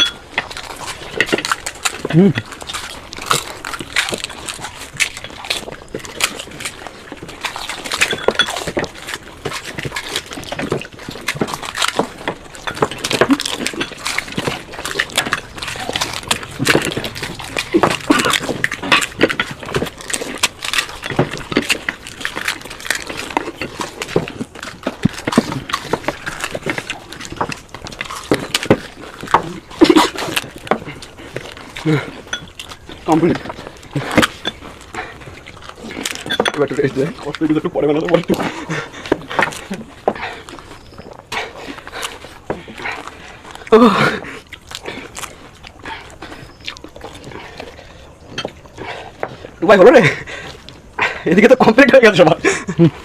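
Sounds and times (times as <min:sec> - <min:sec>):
crisp shells crunching: 0:00.0 - 0:53.0
noisy chewing: 0:00.0 - 0:53.0
slurping: 0:00.0 - 0:53.0.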